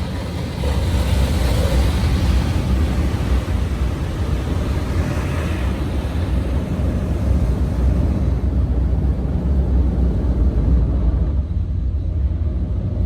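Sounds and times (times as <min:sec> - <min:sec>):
truck wash low rumble: 0:00.0 - 0:13.0.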